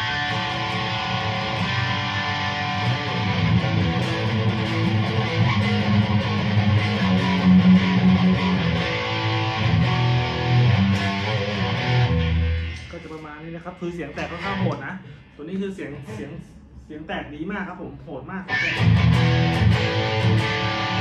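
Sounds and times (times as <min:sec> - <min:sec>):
distorted electric guitar chords: 0:00.0 - 0:13.2, 0:13.8 - 0:15.3, 0:18.5 - 0:21.0.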